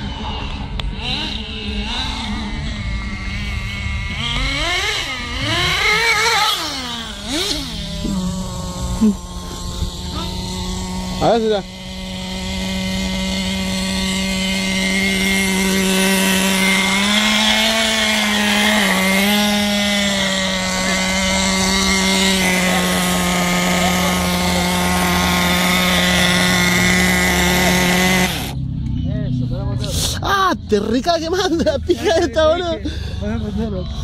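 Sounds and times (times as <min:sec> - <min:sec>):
small high-revving engine: 0:00.0 - 0:34.0.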